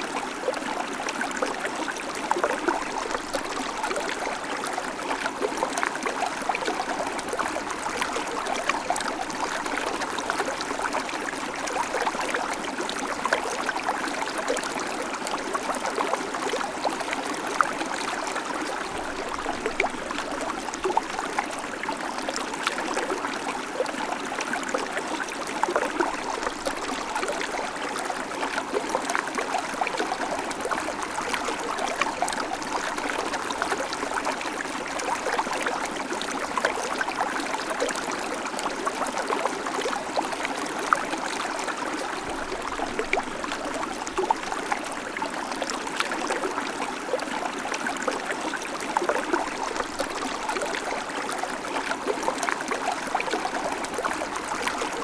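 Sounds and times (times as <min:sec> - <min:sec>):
creek water running over stones: 0:00.0 - 0:55.0.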